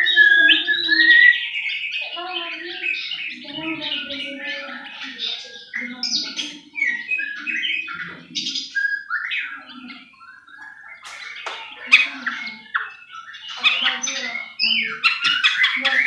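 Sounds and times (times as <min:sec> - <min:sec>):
bird singing whistled song: 0:00.0 - 0:16.0.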